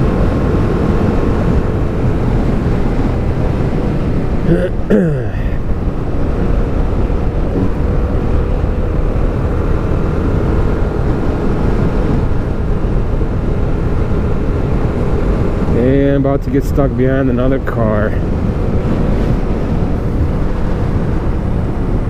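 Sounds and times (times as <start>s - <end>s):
heavy wind rush: 0.0s - 22.0s
motorcycle running: 0.0s - 22.0s.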